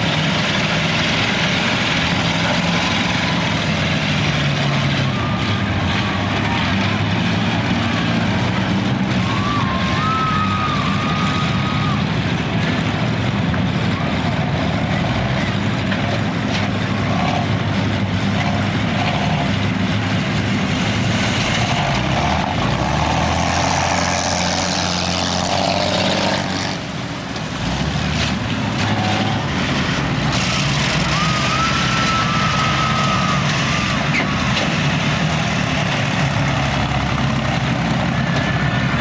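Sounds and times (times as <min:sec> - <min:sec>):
car engines running hard: 0:00.0 - 0:39.0.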